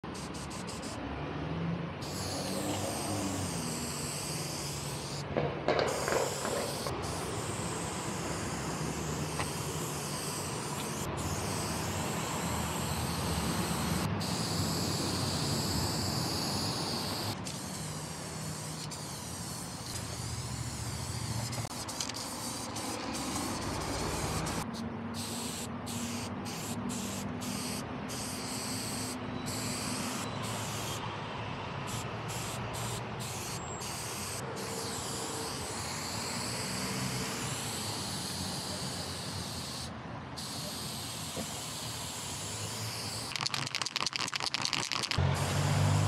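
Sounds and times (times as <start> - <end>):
spray paint cans hissing: 0.0 - 1.0, 2.0 - 31.0, 31.9 - 46.0
road traffic rumble: 0.0 - 46.0.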